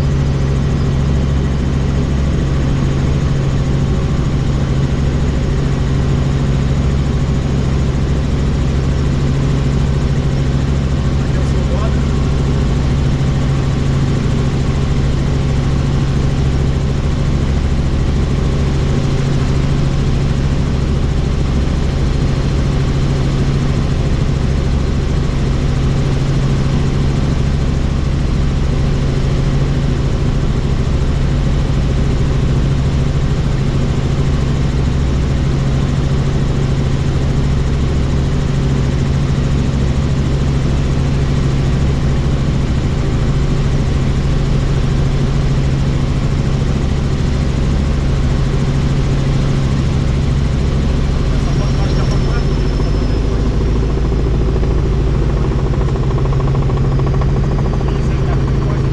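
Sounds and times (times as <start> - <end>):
helicopter engine and rotor drone: 0.0 - 58.9.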